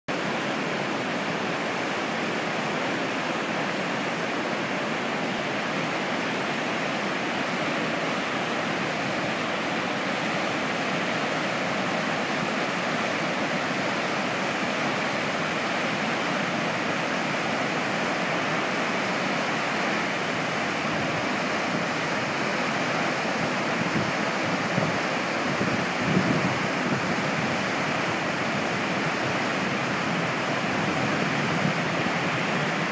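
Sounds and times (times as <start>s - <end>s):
whitewater rapids rushing: 0.1s - 32.9s.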